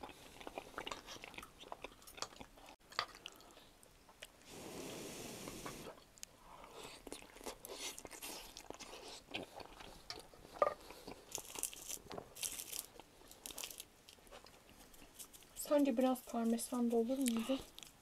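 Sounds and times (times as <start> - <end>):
people chewing and crunching: 0.0 - 4.5, 5.6 - 18.0.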